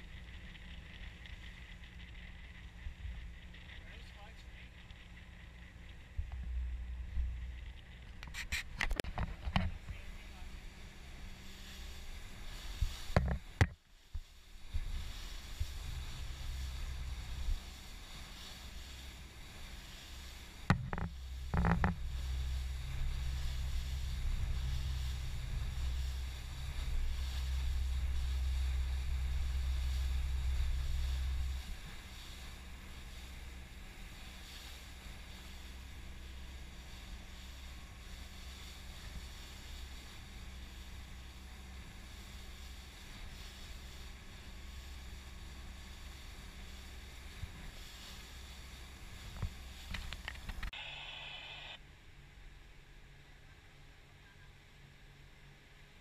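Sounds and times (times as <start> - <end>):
motorboat engine rumble: 0.0 - 56.0.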